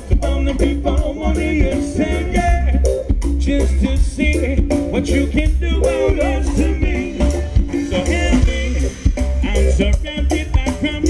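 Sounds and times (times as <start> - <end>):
person singing: 0.0 - 11.0
ska band playing: 0.0 - 11.0.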